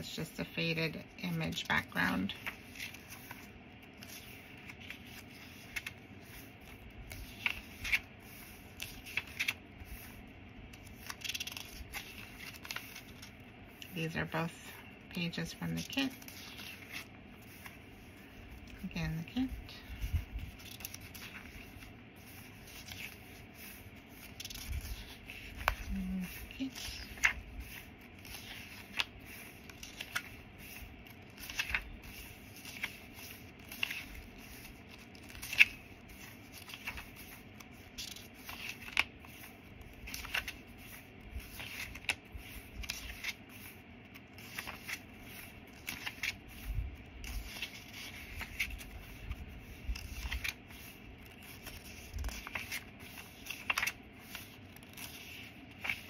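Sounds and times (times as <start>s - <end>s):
paper pages rustling: 0.4s - 56.0s.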